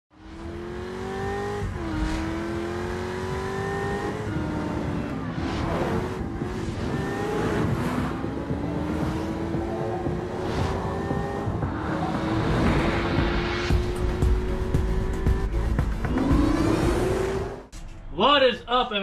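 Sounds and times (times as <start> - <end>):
sports car engine accelerating: 0.1 - 17.7.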